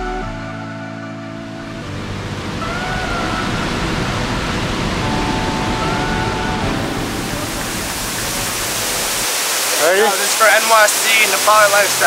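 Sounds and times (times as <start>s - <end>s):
waterfall rushing: 1.6s - 12.0s.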